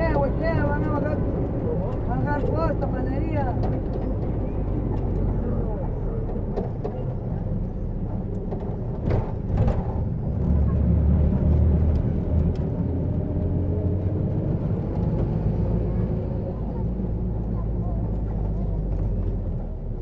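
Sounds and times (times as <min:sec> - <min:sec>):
low engine and road rumble: 0:00.0 - 0:20.0.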